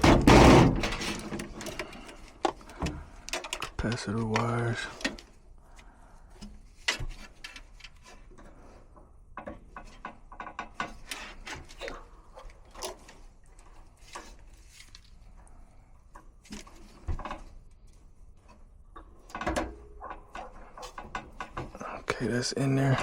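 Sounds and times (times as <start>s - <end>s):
small clicks taps and scrapes: 1.4s - 22.2s.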